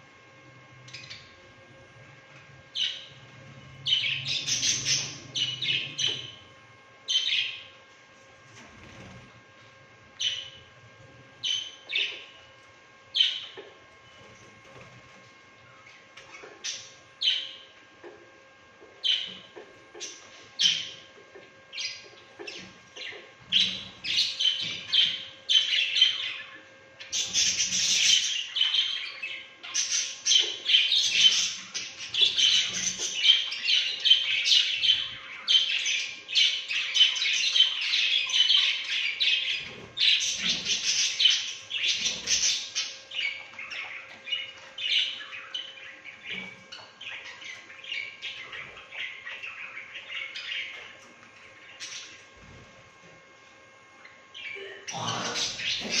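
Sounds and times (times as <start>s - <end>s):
budgerigars chirping and warbling: 0.9s - 1.5s, 2.4s - 6.5s, 7.1s - 7.8s, 10.2s - 10.7s, 11.4s - 12.5s, 13.1s - 14.9s, 15.8s - 18.2s, 19.0s - 21.1s, 21.7s - 52.6s, 54.0s - 56.0s.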